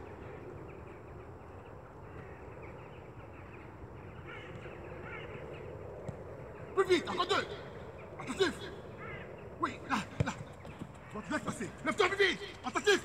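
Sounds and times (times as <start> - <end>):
faint distant calls: 0.0 - 13.0
outdoor background noise: 0.0 - 13.0.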